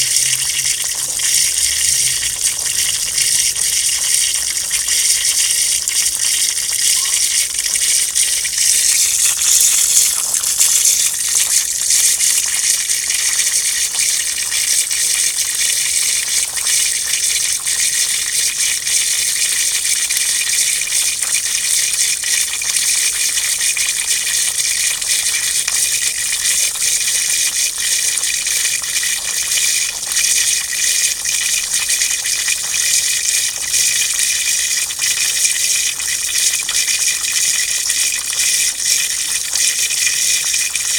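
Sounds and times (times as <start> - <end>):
water gushing: 0.0 - 40.9.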